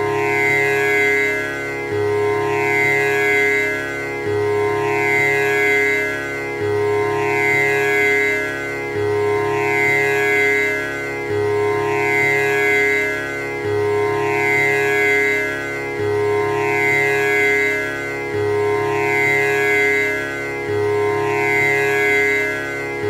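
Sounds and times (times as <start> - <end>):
tanpura drone: 0.0 - 23.0.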